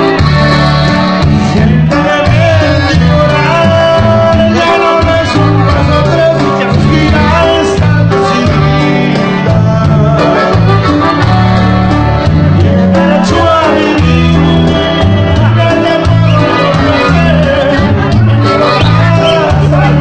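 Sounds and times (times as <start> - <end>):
accordion notes: 0.0 - 20.0
bass guitar line: 0.0 - 20.0
guitar: 0.0 - 20.0.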